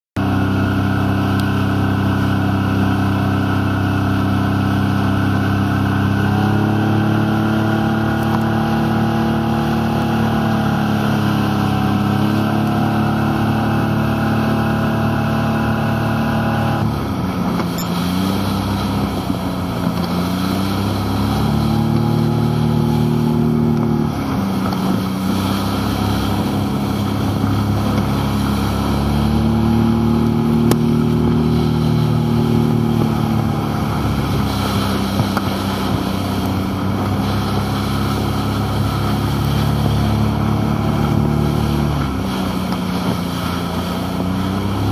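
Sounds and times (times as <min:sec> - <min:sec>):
outboard motor running at speed: 0:00.2 - 0:44.9
rush of wind and water: 0:00.2 - 0:44.9.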